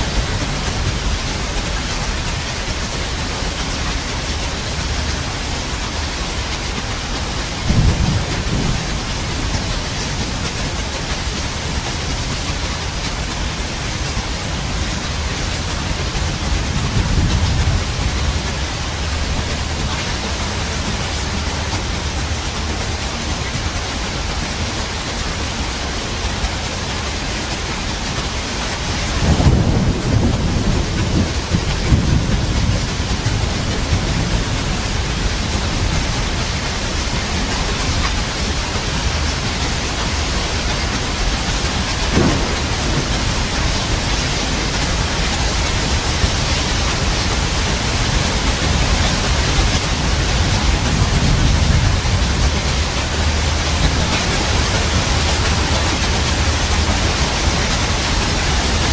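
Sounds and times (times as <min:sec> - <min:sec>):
rolling thunder: 0:00.0 - 0:10.9, 0:11.5 - 0:20.9, 0:28.7 - 0:58.9
steady rain: 0:00.0 - 0:58.9.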